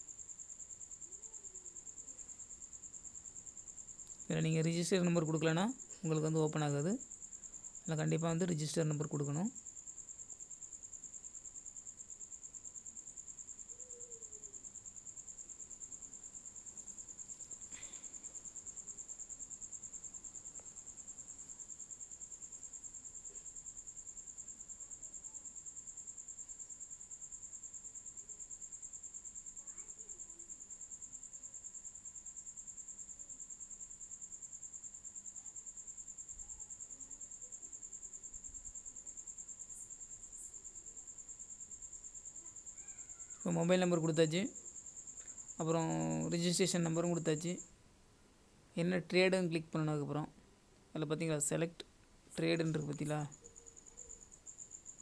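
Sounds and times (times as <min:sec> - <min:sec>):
cricket trilling: 0:00.0 - 0:47.8, 0:51.0 - 0:55.0.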